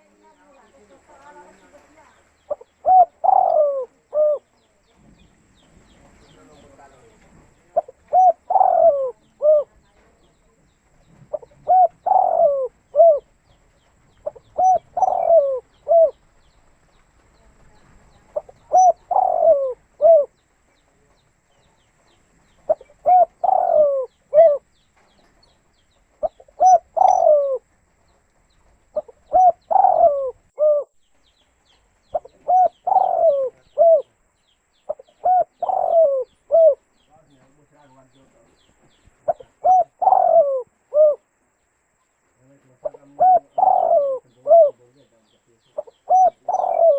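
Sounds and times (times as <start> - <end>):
dove cooing: 0.0 - 4.9, 5.8 - 10.4, 11.2 - 16.4, 17.4 - 20.4, 21.1 - 25.4, 26.2 - 27.8, 28.9 - 31.0, 32.1 - 34.3, 34.9 - 38.4, 39.2 - 41.4, 42.4 - 46.9.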